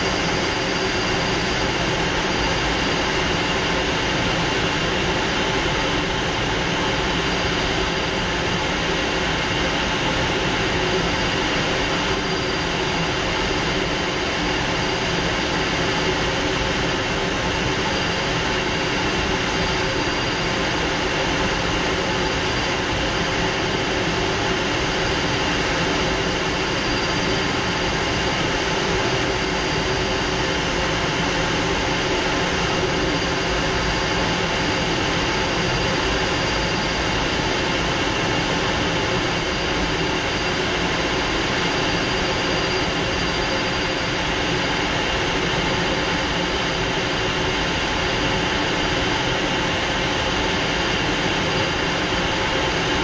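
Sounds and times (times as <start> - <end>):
high-pitched engine whine: 0.0 - 53.0
jet engine rush in cockpit: 0.0 - 53.0.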